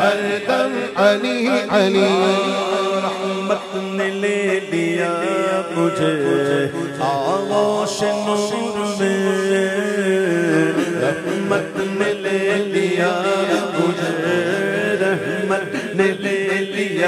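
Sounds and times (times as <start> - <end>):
man singing devotional poem: 0.0 - 17.0.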